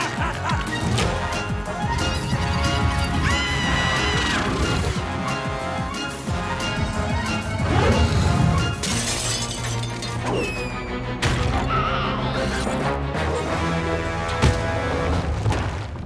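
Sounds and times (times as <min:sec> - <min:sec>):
cartoon background music: 0:00.0 - 0:15.7.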